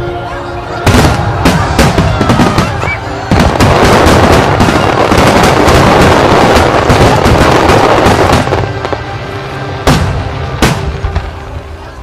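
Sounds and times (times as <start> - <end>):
fireworks booming and crackling: 0.7 - 12.0.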